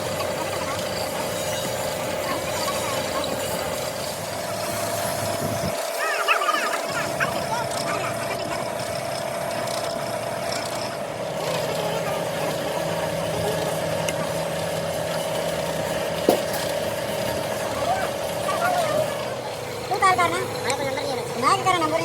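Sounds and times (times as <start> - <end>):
heavy machinery humming: 0.0 - 22.0.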